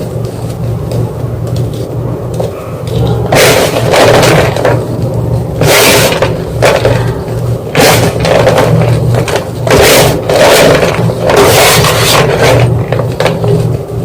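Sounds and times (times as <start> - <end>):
chalk crunching: 0.0 - 13.7
steady low hum: 0.0 - 14.0.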